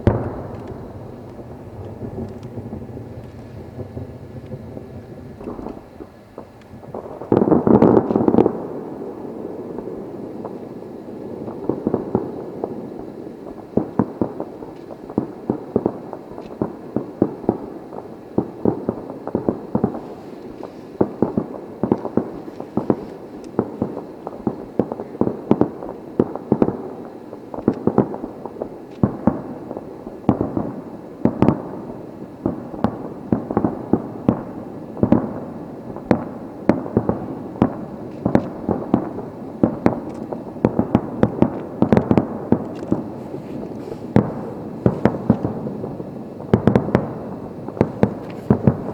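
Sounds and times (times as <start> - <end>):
firework shells bursting: 0.0 - 12.7, 18.4 - 48.9
firework crackle: 0.0 - 48.9.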